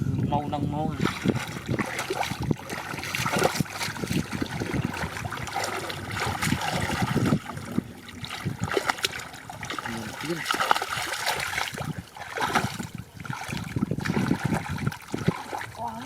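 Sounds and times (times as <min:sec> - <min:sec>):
muddy water splashing: 0:00.6 - 0:16.0.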